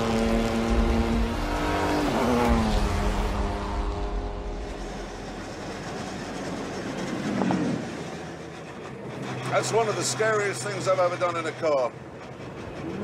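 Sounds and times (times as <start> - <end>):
car engine running hard: 0.0 - 13.0.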